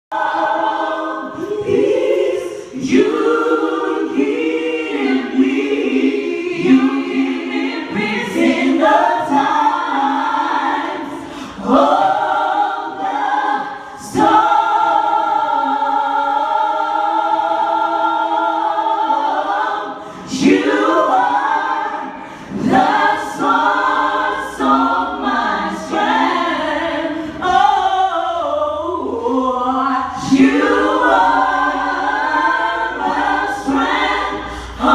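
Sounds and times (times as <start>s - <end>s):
a cappella group singing in harmony: 0.0s - 34.9s.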